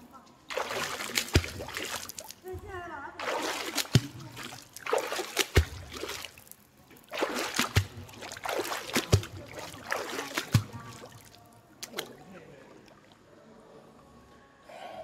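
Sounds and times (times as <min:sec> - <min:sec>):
water splashing and sloshing: 0:00.0 - 0:13.5.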